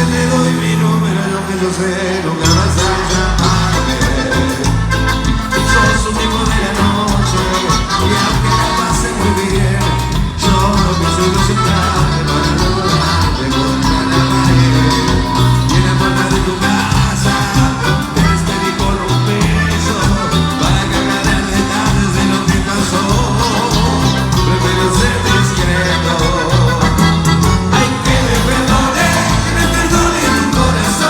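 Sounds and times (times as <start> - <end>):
band music with repeating bass: 0.0 - 31.0.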